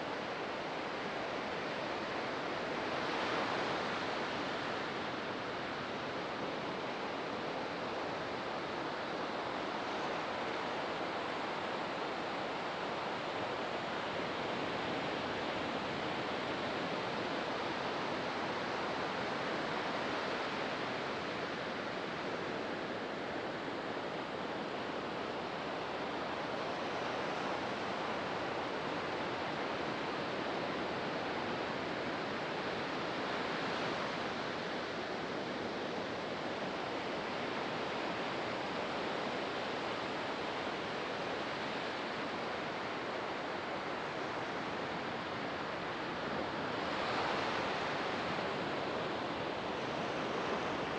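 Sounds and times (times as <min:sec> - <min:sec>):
waves breaking on beach: 0:00.2 - 0:50.9.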